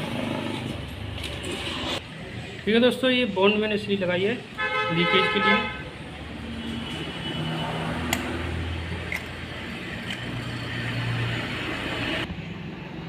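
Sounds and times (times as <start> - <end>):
traffic passing on road: 0.0 - 13.0.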